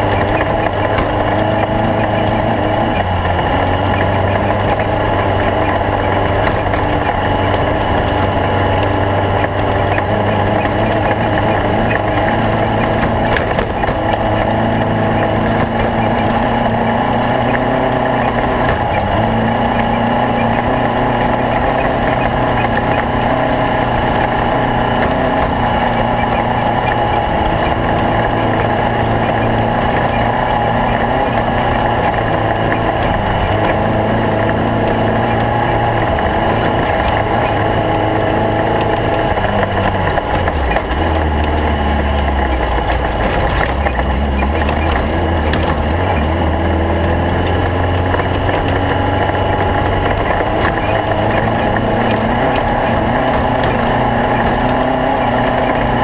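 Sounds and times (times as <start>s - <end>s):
race car engine under load: 0.0s - 56.0s.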